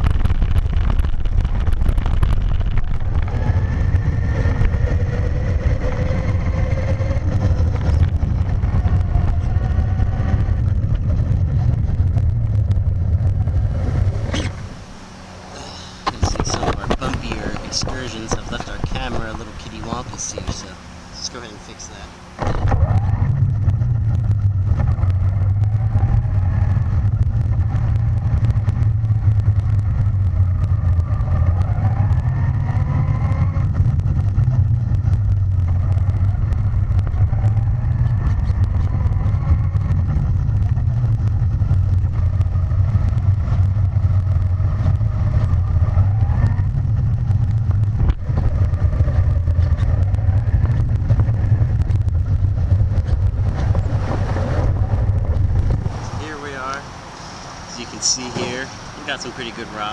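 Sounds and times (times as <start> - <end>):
toy truck tyres rumbling on gravel: 0.0 - 14.7, 15.6 - 56.9.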